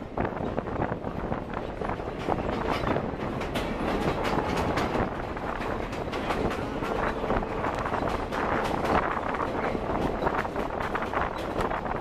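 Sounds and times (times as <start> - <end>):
train wheels clacking over rail joints: 0.3 - 12.0.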